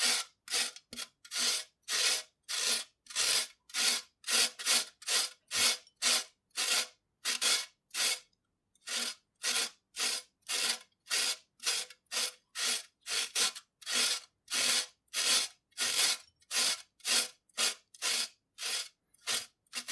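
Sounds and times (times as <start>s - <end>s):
carrot grated on a grater: 0.0s - 8.2s, 8.9s - 19.9s.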